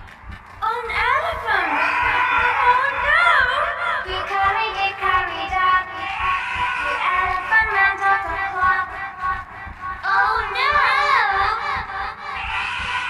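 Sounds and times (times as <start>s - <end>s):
pitch-shifted singing voices with music: 0.0s - 13.0s.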